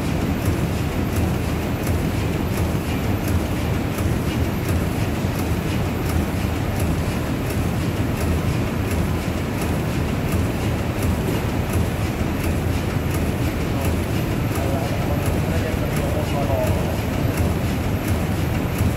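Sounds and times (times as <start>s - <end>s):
steam pumping engines rumbling: 0.0s - 18.9s.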